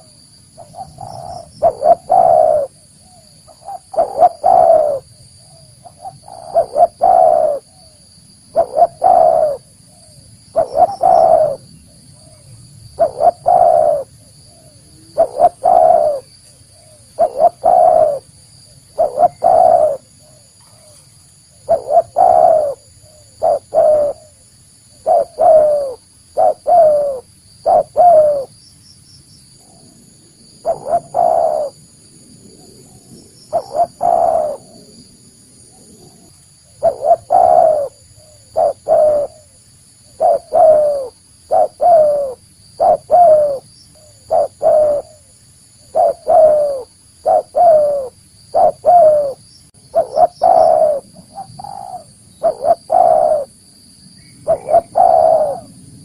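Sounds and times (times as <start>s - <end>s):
dove cooing: 0.0s - 28.5s, 29.6s - 31.9s, 32.5s - 53.6s, 54.4s - 56.0s.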